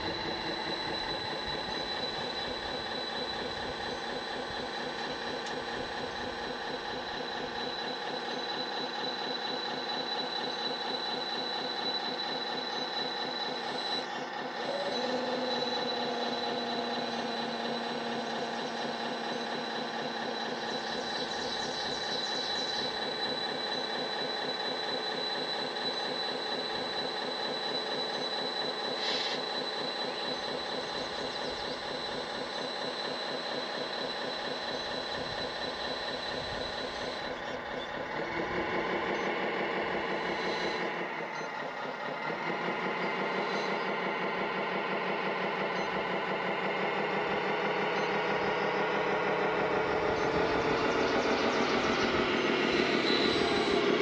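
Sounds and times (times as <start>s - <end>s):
excavator hydraulic whine: 0.0s - 54.0s.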